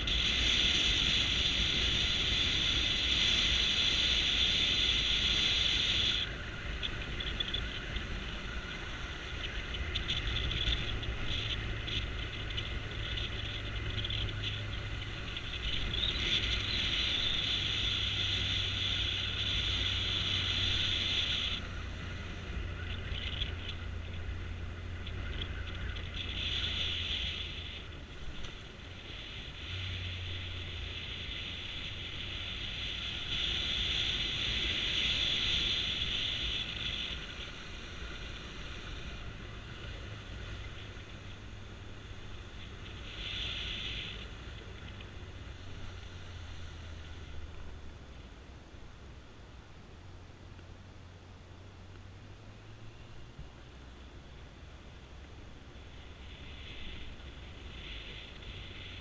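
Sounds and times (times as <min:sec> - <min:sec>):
motorcycle engine hum: 0:00.0 - 0:59.0.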